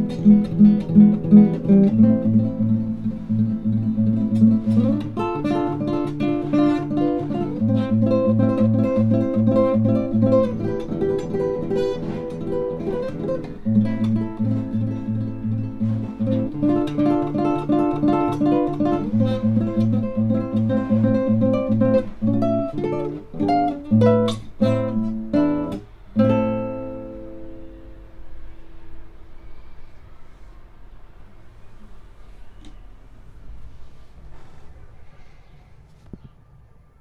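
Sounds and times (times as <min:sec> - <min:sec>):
acoustic guitar music: 0:00.0 - 0:29.7.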